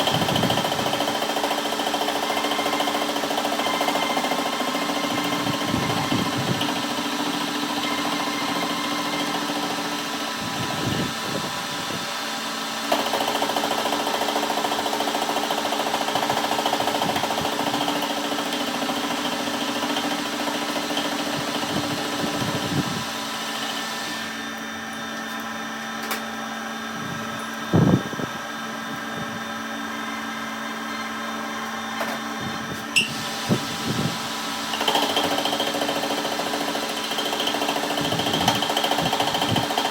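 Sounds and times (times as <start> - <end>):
shop machine humming: 0.0 - 39.9.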